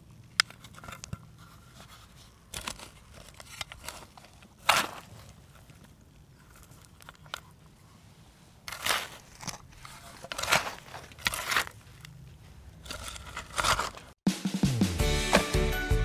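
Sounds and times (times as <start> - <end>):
plastic parts crackling and crunching: 0.2 - 7.7, 8.6 - 14.2.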